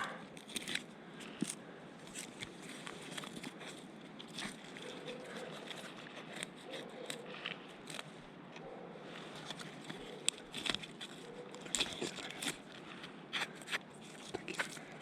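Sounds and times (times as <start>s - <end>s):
bark and twigs crackling and snapping: 0.0s - 15.0s.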